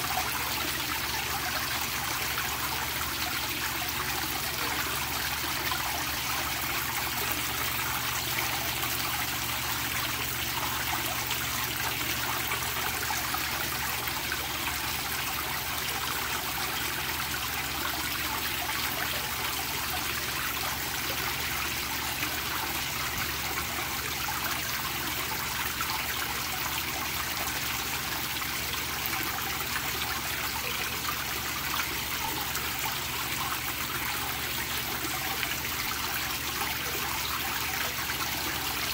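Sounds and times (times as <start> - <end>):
fountain splashing into pond: 0.0 - 38.9.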